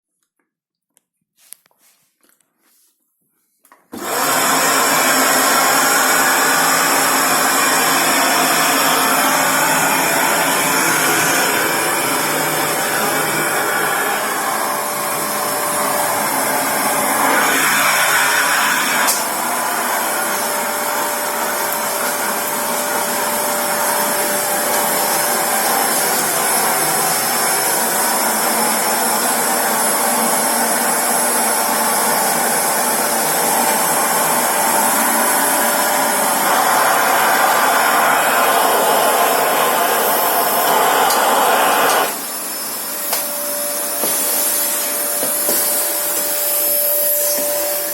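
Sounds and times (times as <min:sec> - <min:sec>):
vacuum cleaner running: 0:03.9 - 0:47.9.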